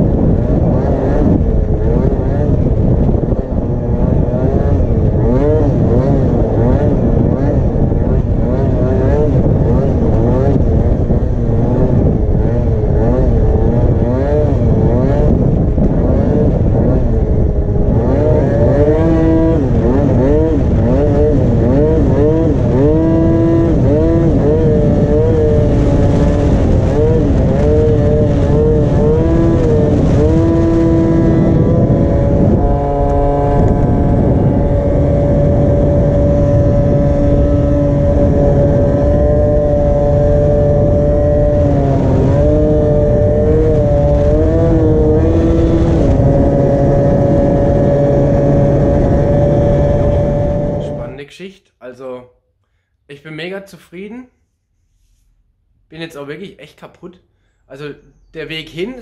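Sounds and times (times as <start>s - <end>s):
scooter engine revving: 0.0s - 51.2s
wind noise: 0.0s - 51.3s.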